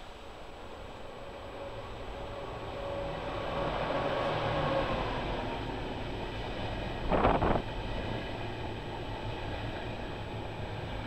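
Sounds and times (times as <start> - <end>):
train rushing past: 0.0 - 11.0.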